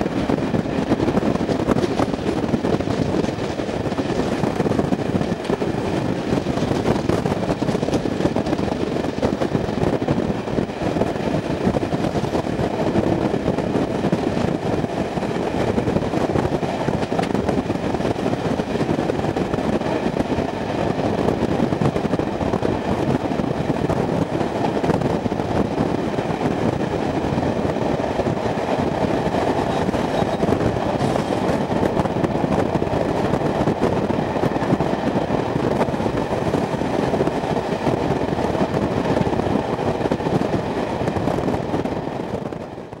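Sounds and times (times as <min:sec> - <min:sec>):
steam train rumbling: 0:00.0 - 0:43.0.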